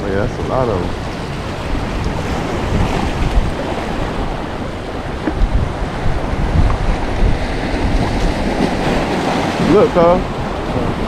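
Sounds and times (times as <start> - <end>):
surf: 0.0 - 11.0
wind buffeting microphone: 0.0 - 11.0.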